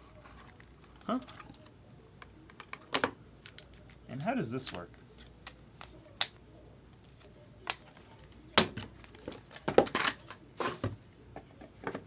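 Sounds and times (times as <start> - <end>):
rustling and handling noises: 0.0 - 12.0.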